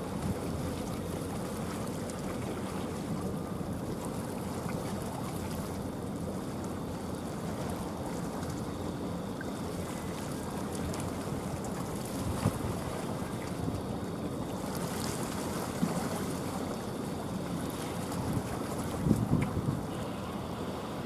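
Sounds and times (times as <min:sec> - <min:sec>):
sea water rushing: 0:00.0 - 0:21.0
wind: 0:00.0 - 0:21.0.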